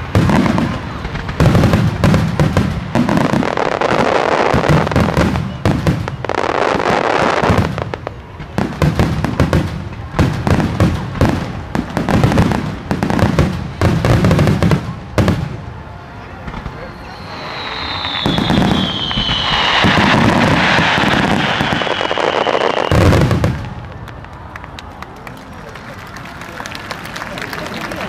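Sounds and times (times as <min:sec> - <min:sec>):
firework crackling: 0:00.0 - 0:25.1.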